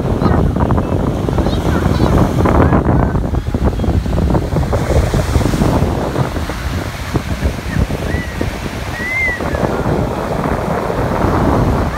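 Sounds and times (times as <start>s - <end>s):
sea surf breaking: 0.0s - 11.9s
wind buffeting microphone: 0.0s - 11.9s.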